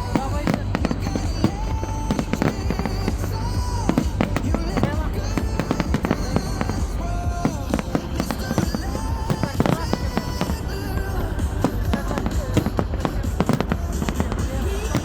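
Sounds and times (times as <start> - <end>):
fireworks bangs and crackles: 0.0 - 15.0
music: 0.0 - 15.0.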